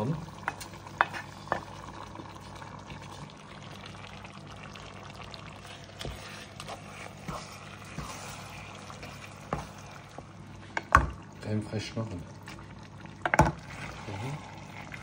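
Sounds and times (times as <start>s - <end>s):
meat sizzling in a pan: 0.0s - 11.1s, 13.2s - 15.0s.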